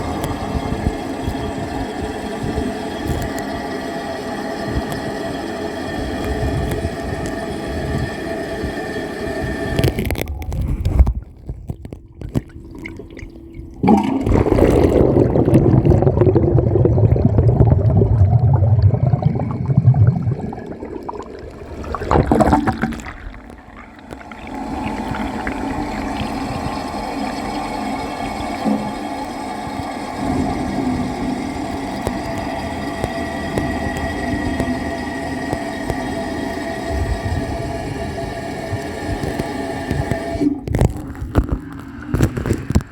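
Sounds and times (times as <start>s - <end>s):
steady hum: 0.0s - 42.8s
toilet flush underwater: 0.0s - 42.9s.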